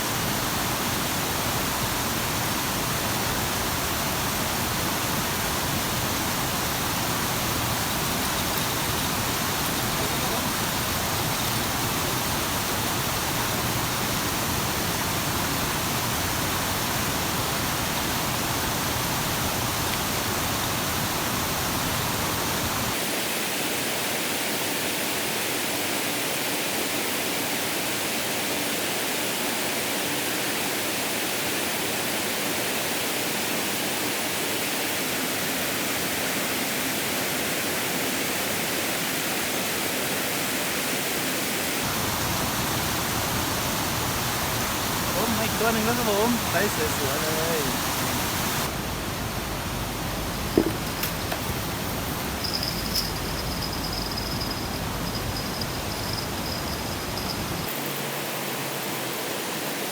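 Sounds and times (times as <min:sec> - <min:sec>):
rushing water hiss: 0:00.0 - 0:59.9.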